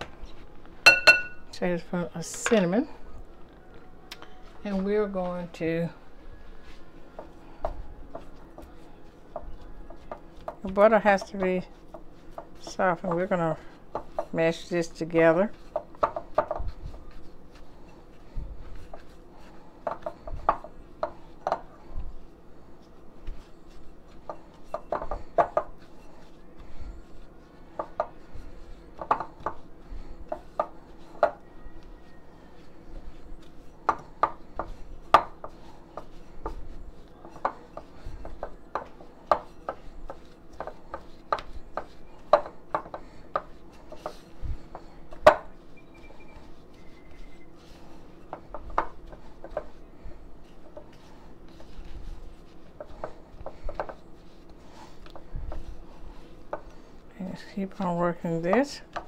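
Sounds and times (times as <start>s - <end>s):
mashing butter mixture by hand: 7.2s - 59.0s.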